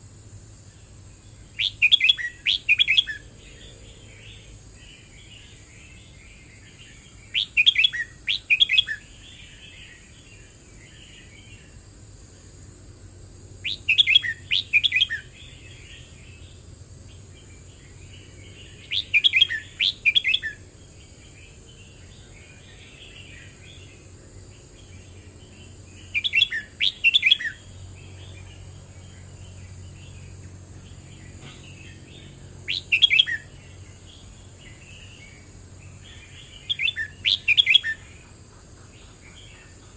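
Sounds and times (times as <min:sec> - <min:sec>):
bird song phrases: 0:00.5 - 0:39.9
soft bird twittering: 0:00.7 - 0:11.8, 0:13.6 - 0:24.1, 0:24.7 - 0:39.9.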